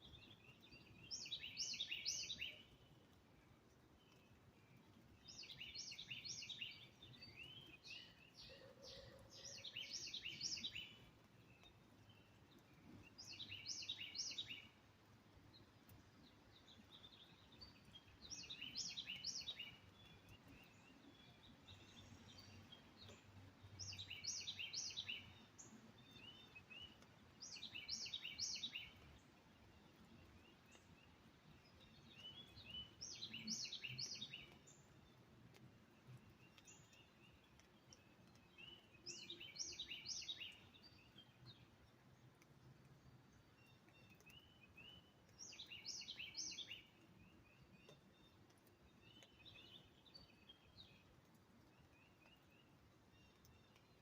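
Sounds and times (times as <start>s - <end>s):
faint steady hiss: 0.0s - 54.0s
songbird singing: 0.0s - 54.0s.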